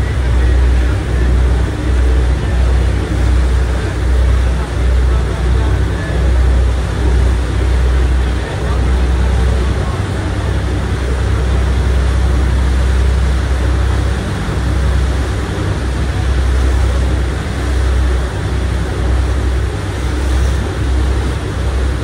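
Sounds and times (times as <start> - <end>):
ferry engine rumble: 0.0 - 22.0.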